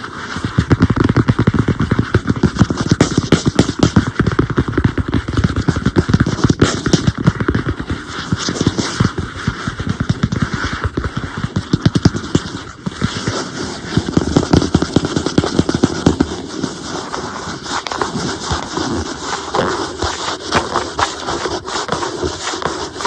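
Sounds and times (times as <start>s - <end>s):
fast tapping on tablet screen: 0.0s - 23.0s.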